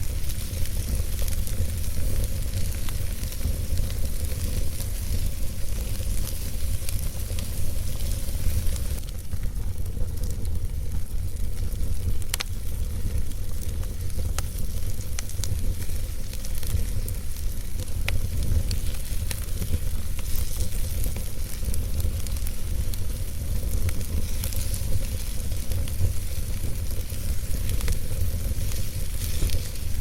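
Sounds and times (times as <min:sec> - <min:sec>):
wood fire burning: 0:00.0 - 0:30.0.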